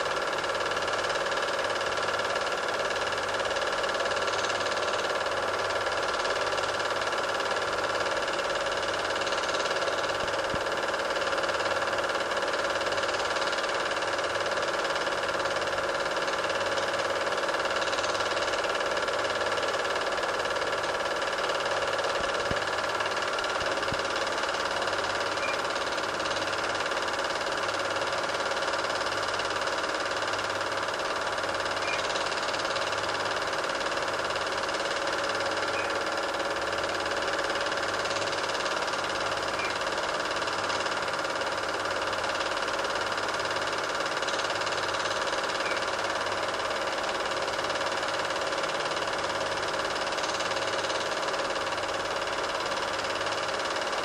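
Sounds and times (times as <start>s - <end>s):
film projector whirring: 0.0s - 54.0s.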